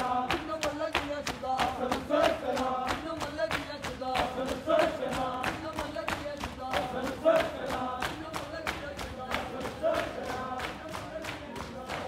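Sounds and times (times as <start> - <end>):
men chanting: 0.0 - 12.0
men slapping chests in unison: 0.0 - 12.0.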